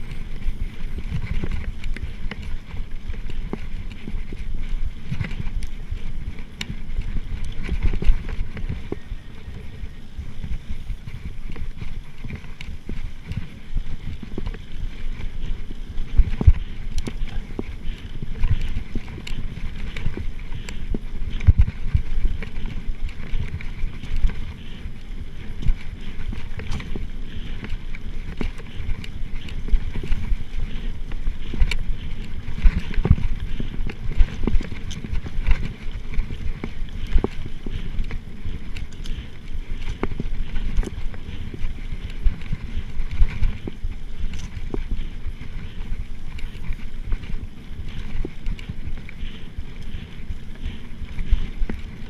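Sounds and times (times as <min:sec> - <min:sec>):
bike knocking and rattling: 0:00.0 - 0:52.0
wind rumble on microphone: 0:00.0 - 0:52.0.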